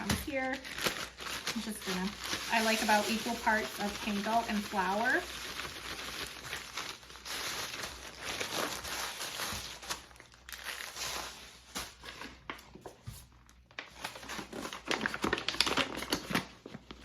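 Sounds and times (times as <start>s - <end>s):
bags rustling and crinkling: 0.0s - 17.0s.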